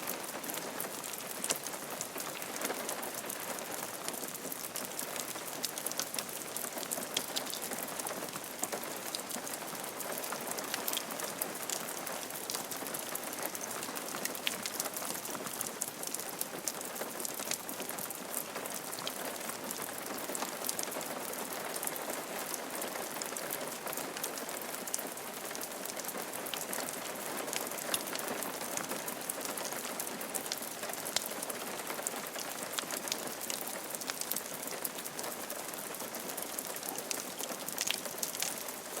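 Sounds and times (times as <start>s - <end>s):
rain falling on a roof: 0.0s - 39.0s.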